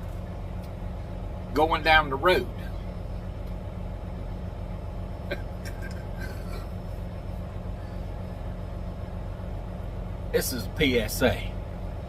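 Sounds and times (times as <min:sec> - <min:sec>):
road noise inside cab: 0:00.0 - 0:12.0
truck engine droning: 0:00.0 - 0:12.0.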